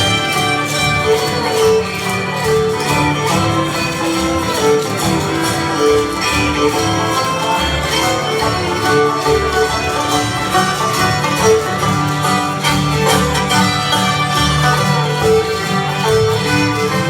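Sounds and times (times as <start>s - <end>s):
bluegrass string band music: 0.0s - 17.0s.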